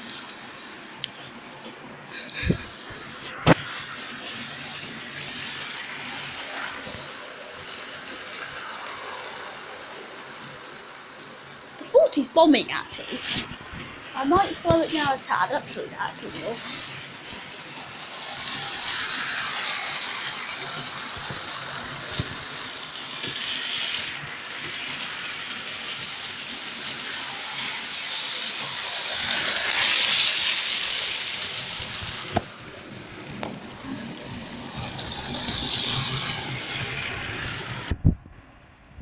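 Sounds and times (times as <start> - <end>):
model trains running on rails: 0.0 - 38.9.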